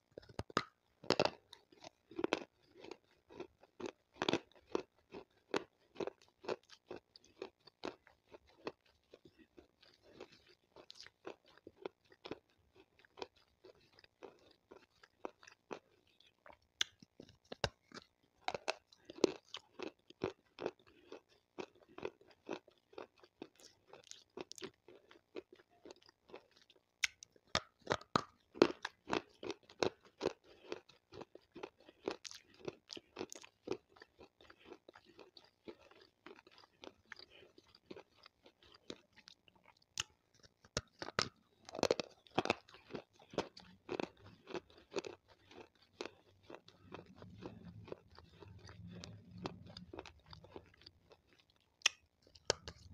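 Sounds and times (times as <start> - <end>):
crunching soft stone with teeth: 0.0 - 52.9.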